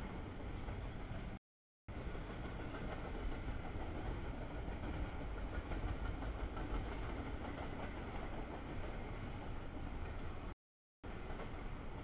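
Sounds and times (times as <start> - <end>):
train cars rumbling on rails: 0.0 - 12.0.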